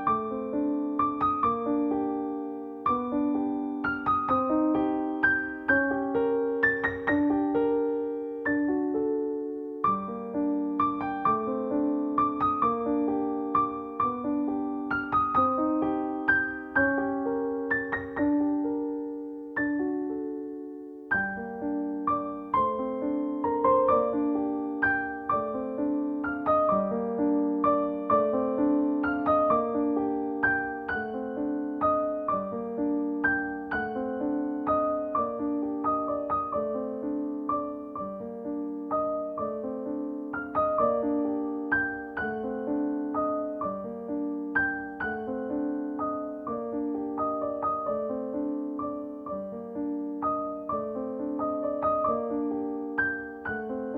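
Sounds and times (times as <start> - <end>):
gentle solo piano music: 0.0 - 53.9.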